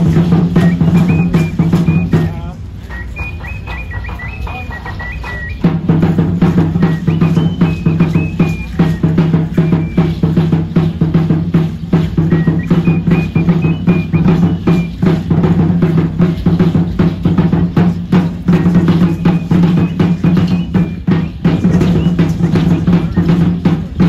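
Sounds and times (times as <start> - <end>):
high piping tune: 0.0 - 15.7, 18.2 - 23.7
drums beaten in fast rhythm: 0.0 - 24.0.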